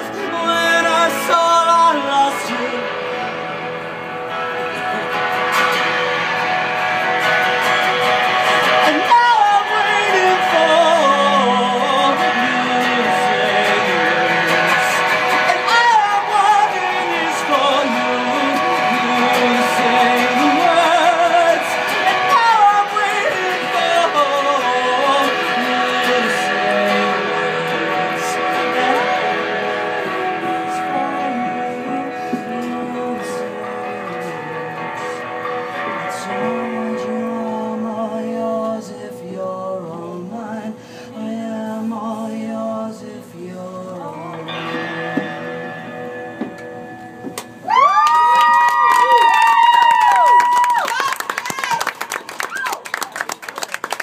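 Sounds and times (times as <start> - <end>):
person singing: 0.0 - 46.6
band playing guitars: 0.0 - 54.0.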